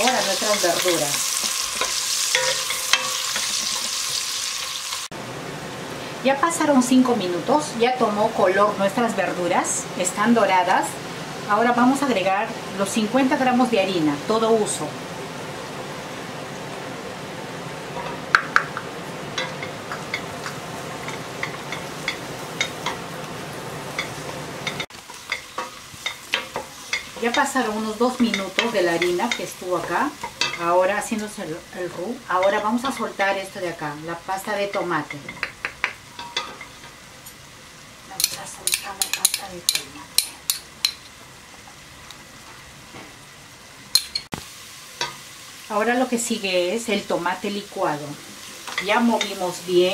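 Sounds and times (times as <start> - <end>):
faint sizzle: 0.0 - 49.9.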